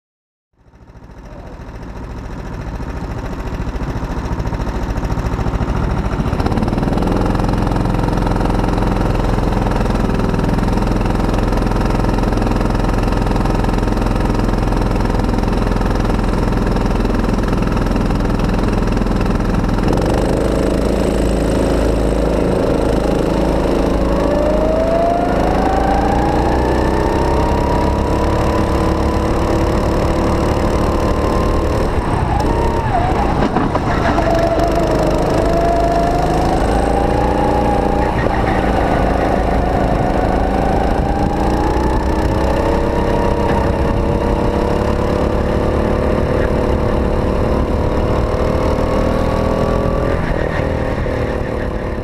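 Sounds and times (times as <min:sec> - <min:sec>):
go-kart engine idling and revving: 0:00.6 - 0:52.0.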